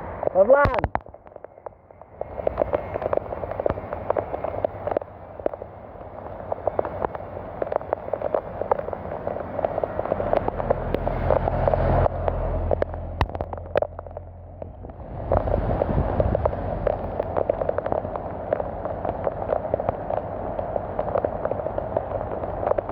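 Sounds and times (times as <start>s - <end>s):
heavy rain pattering: 0.0s - 22.9s
wind rumbling on microphone: 0.0s - 22.9s.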